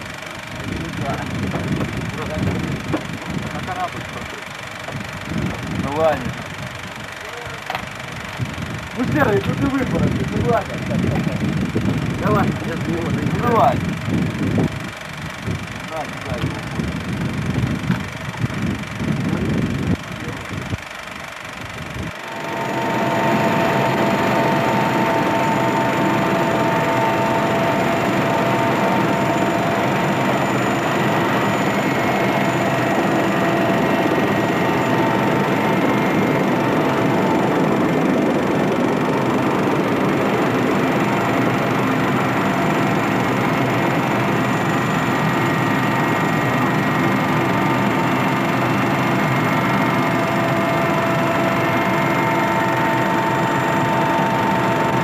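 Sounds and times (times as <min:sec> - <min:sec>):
helicopter engines and rotor: 0:00.0 - 0:55.0
high whining tones: 0:00.0 - 0:55.0.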